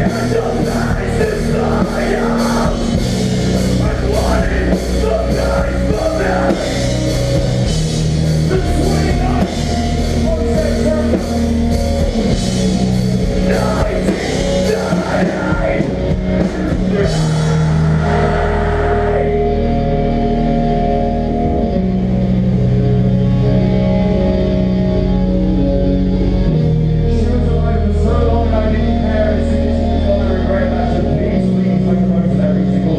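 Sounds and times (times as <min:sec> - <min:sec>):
bass guitar: 0:00.0 - 0:32.9
distorted electric guitars: 0:00.0 - 0:32.9.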